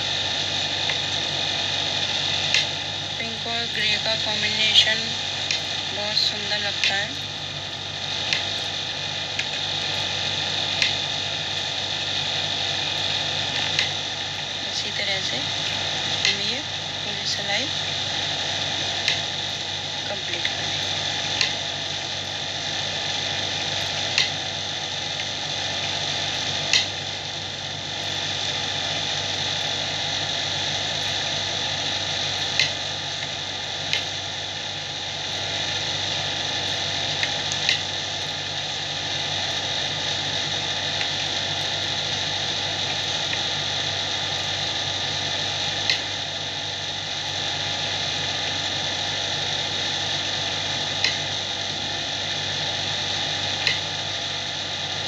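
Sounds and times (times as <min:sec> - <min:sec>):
faint hum: 0:00.0 - 0:55.0
steady whirring: 0:00.0 - 0:55.0.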